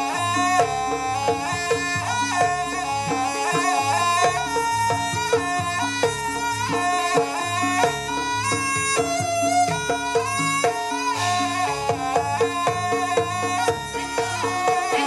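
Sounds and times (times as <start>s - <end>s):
drum strokes: 0.0s - 15.0s
sustained melody line: 0.0s - 15.0s.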